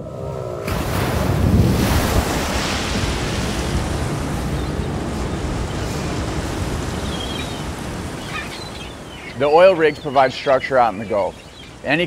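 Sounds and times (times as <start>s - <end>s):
sea waves splashing: 0.0s - 12.0s.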